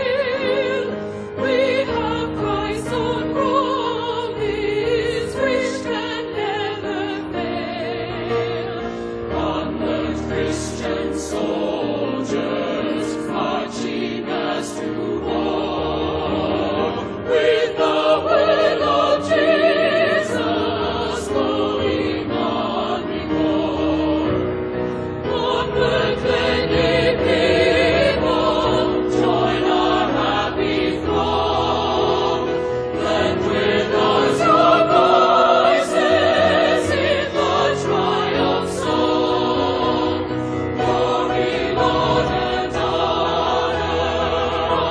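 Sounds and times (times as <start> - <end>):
choir singing a hymn: 0.0 - 44.9
sustained accompaniment: 0.0 - 44.9.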